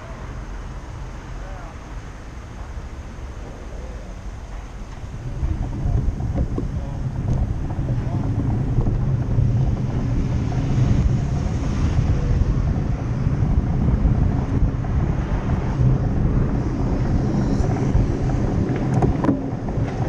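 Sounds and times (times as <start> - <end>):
city traffic rumble: 0.0 - 20.0
wind on microphone: 2.5 - 20.0.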